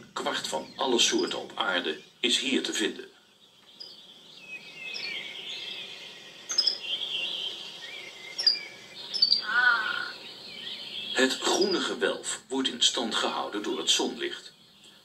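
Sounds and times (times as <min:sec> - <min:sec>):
birds chirping and calling: 0:00.0 - 0:15.0
forest background noise: 0:00.0 - 0:15.0.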